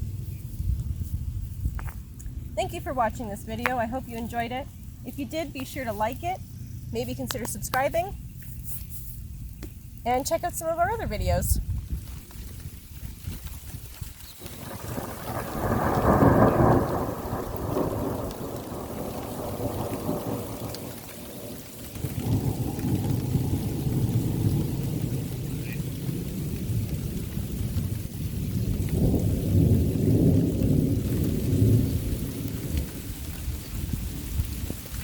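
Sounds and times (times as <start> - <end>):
rain falling: 0.0 - 8.4, 9.7 - 35.0
thunder rumbling: 0.0 - 8.4, 9.4 - 35.0.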